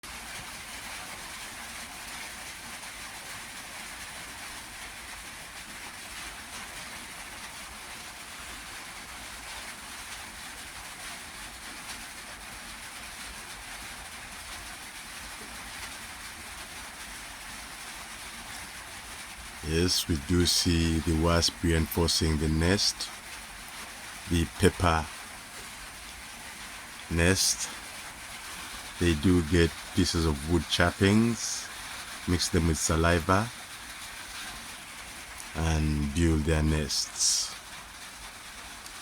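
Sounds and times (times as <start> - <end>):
rain on a metal roof: 0.0 - 39.0.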